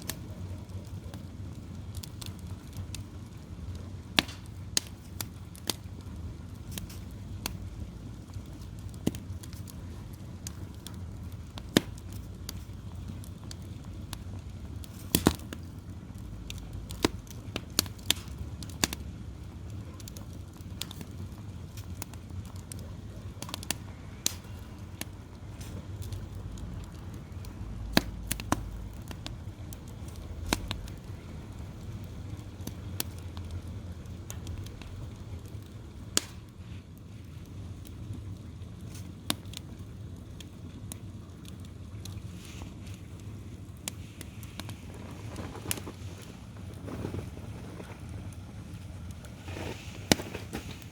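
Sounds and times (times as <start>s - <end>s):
low steady rumble: 0.0s - 50.9s
sharp pops of fire: 0.0s - 50.9s
wood fire crackling: 0.0s - 50.9s.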